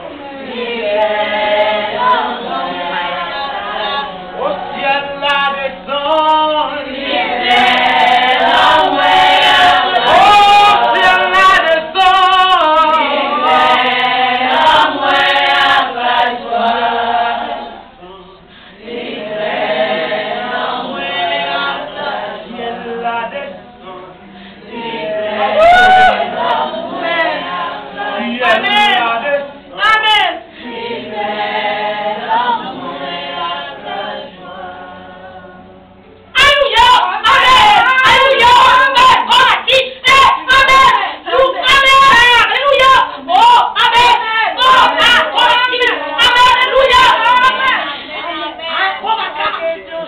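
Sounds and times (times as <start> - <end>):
women singing together: 0.0 - 50.0.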